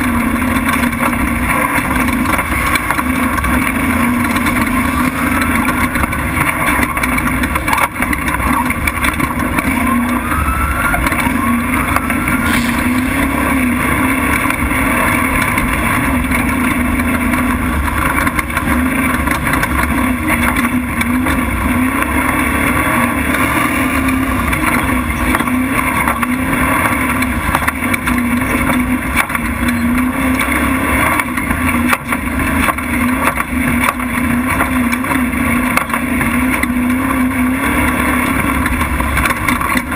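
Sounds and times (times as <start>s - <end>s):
rumble of driving on dirt track: 0.0s - 39.9s
truck engine running hard: 0.0s - 39.9s.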